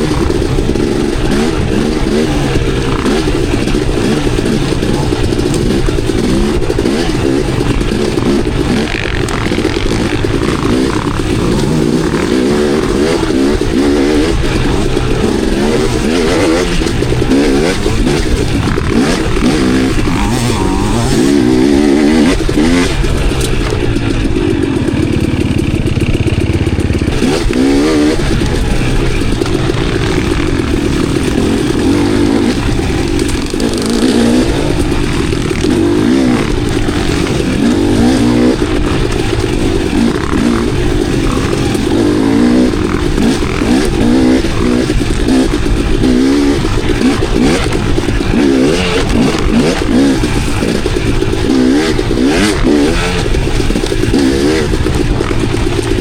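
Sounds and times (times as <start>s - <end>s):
dirt bike engine revving: 0.0s - 56.0s
sharp knocks and clatter: 0.0s - 56.0s.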